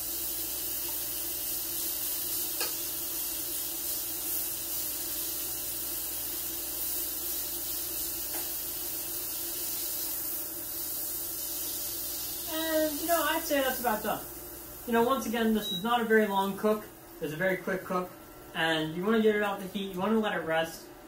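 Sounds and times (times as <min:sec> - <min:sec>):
meat sizzling on grill pan: 0:00.0 - 0:18.9.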